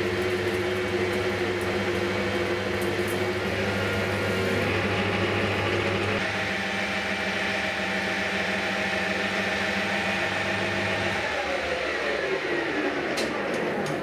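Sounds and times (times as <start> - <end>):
lathe whine: 0.0 - 14.0
metal lathe humming: 0.0 - 14.0.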